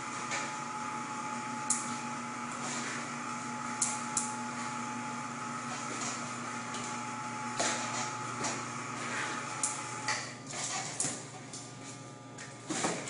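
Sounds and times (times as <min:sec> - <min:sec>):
steady two-tone mechanical hum: 0:00.0 - 0:13.0.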